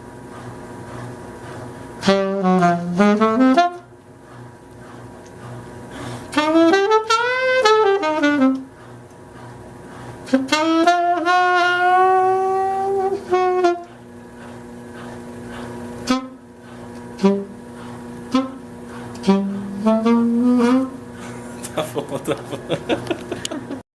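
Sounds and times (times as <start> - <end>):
washing machine hum: 0.0 - 23.8
saxophone playing blues: 0.2 - 23.8.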